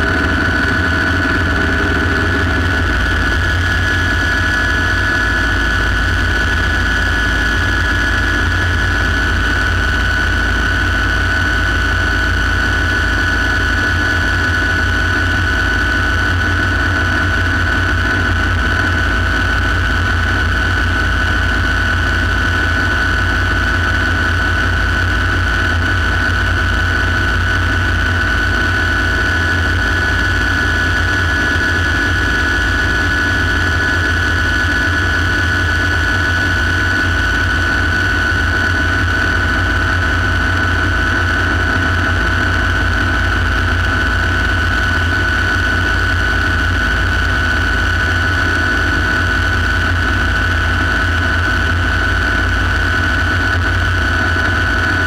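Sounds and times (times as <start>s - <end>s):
helicopter turbine whine: 0.0s - 55.0s.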